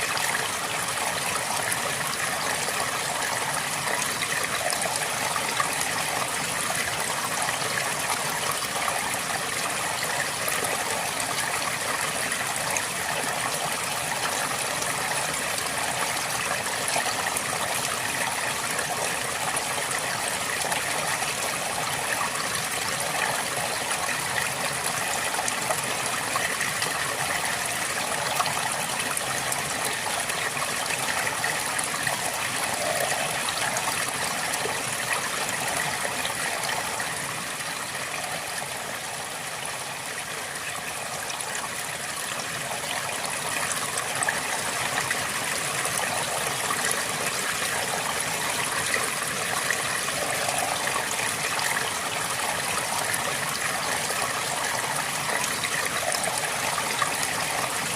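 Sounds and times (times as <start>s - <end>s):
river flowing over stones: 0.0s - 57.9s.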